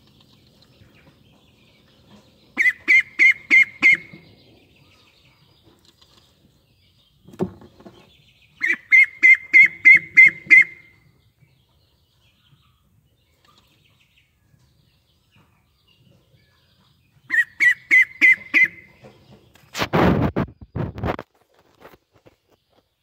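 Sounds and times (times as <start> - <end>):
duckling peeping: 0.0 - 7.1, 8.0 - 19.6.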